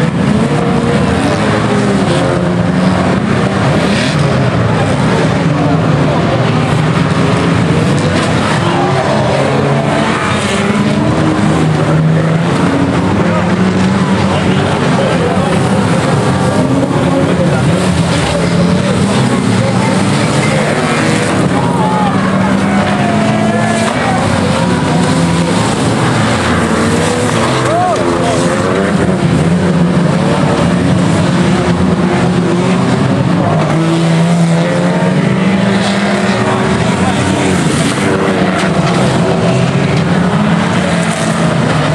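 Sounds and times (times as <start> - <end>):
racing car engines passing: 0.0 - 41.9.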